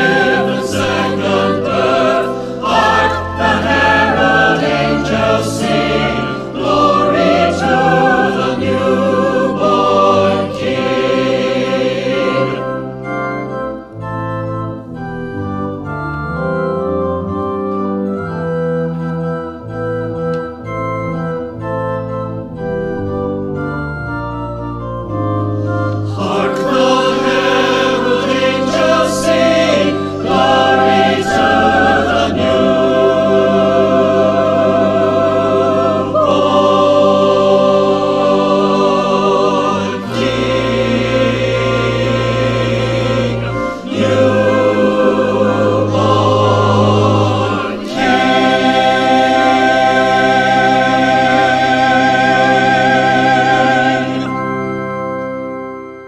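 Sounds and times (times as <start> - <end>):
choir singing: 0.0 - 18.2, 24.4 - 55.8
organ playing: 0.0 - 56.0.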